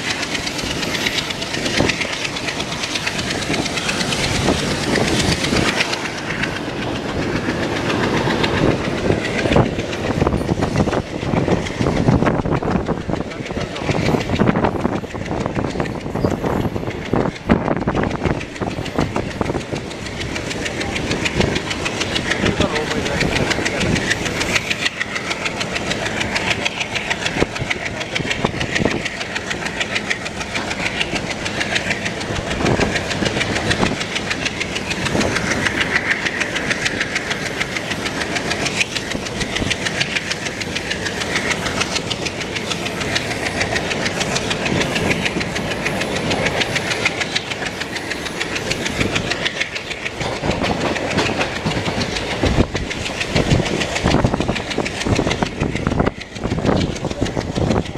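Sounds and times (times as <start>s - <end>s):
train wheels rushing on rails: 0.0s - 57.9s
wheels clicking over rail joints: 0.0s - 57.9s.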